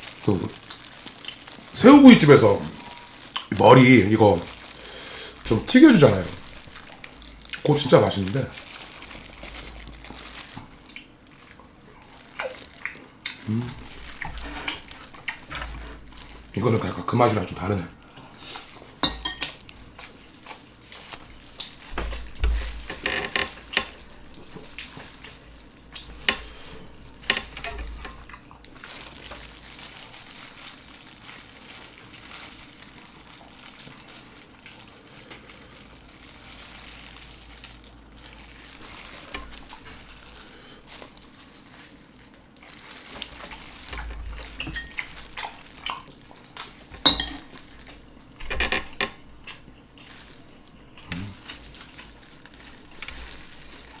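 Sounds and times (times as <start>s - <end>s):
wet chewing: 0.0s - 16.6s, 18.0s - 54.0s
plastic gloves crackling: 0.0s - 54.0s.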